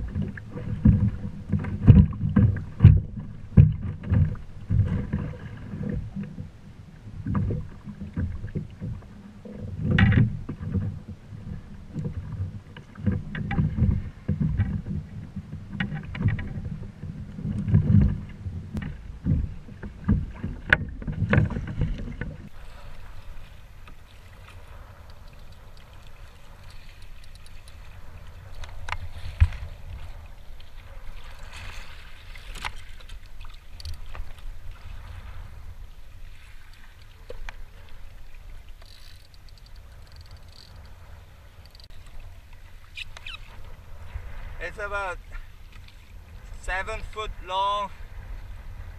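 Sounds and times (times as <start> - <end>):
water slapping against kayak: 0.0 - 48.9
wind buffeting microphone: 9.7 - 48.9.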